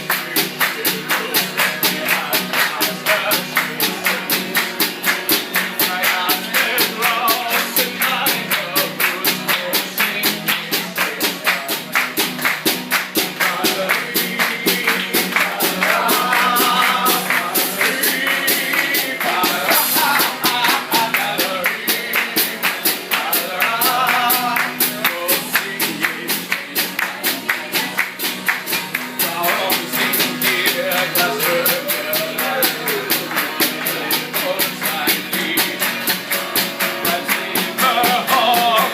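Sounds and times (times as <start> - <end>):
band with fast beat: 0.0 - 38.9
man singing: 0.0 - 38.9.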